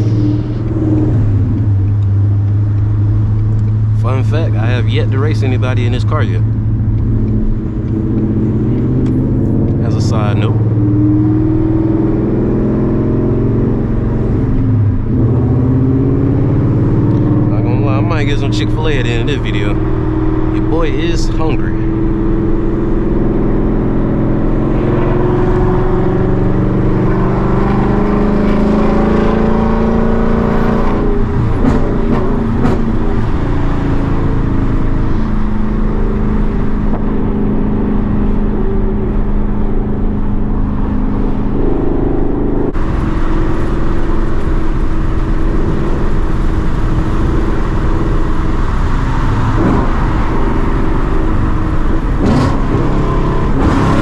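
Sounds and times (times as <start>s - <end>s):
loud car engine while driving: 0.0s - 54.0s.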